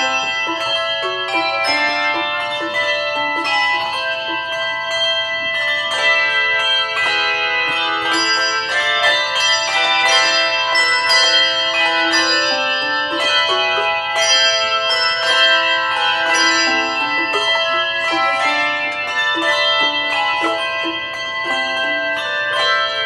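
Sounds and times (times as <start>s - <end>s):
handbell choir melody: 0.0s - 23.0s.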